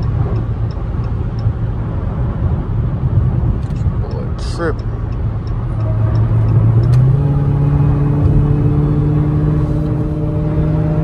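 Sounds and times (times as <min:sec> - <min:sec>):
car engine cruising: 0:00.0 - 0:11.0
road rumble: 0:00.0 - 0:11.0.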